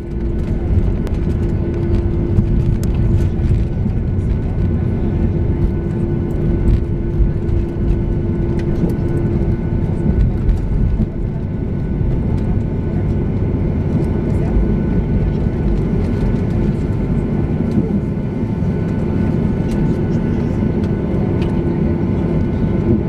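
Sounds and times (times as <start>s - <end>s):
jet engines rumbling: 0.0s - 23.0s
steady hum: 0.0s - 23.0s.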